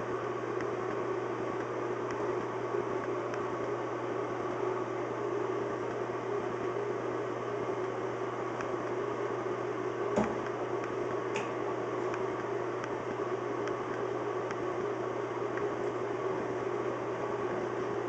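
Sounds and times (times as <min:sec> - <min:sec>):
mechanical hum and hiss: 0:00.0 - 0:18.0.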